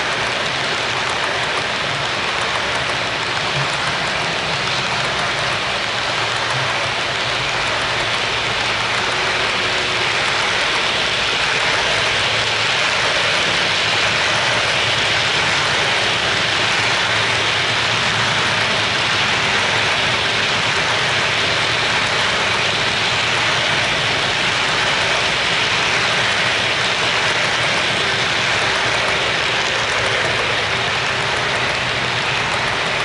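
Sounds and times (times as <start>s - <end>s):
model train wheels rolling: 0.0s - 33.0s.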